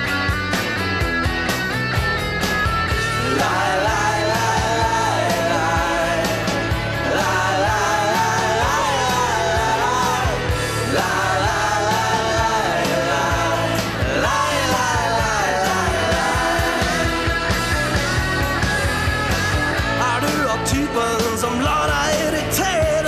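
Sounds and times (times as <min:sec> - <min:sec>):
instrumental rock music: 0:00.0 - 0:23.0.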